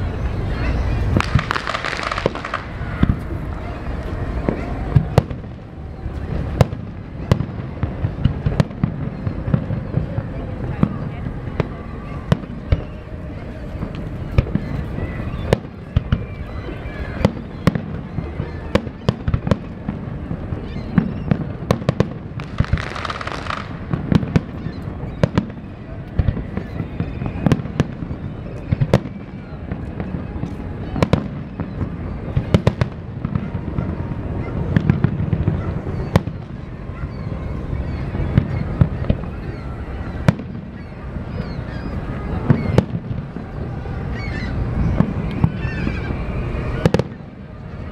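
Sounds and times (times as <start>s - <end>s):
fireworks booming: 0.7s - 47.9s.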